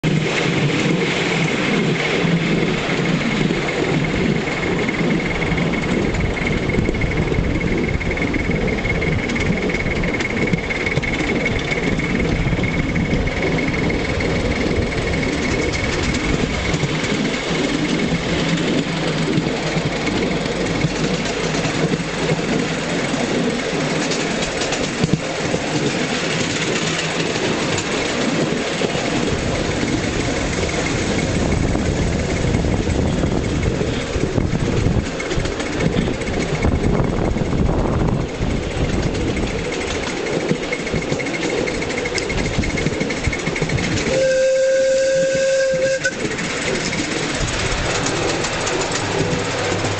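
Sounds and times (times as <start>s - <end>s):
steam locomotive chuffing: 0.0s - 49.9s
wheels rattling on rails: 0.0s - 49.9s.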